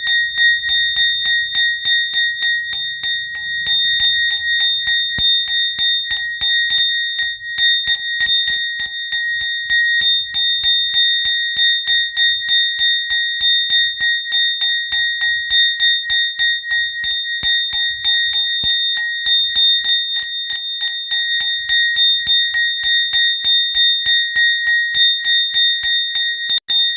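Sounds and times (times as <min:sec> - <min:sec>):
small bell rung rapidly: 0:00.0 - 0:26.9.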